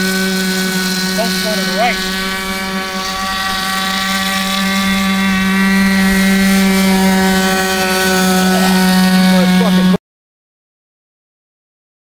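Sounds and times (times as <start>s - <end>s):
model boat engine whining: 0.0s - 10.0s.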